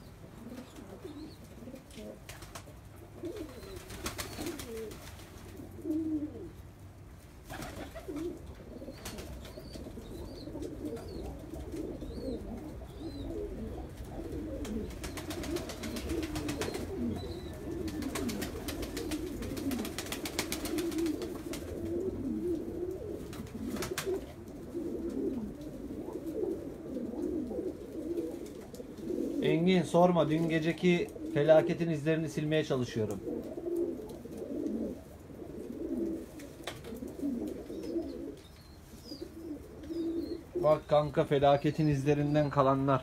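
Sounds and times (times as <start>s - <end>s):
pigeons cooing: 0.0s - 43.0s.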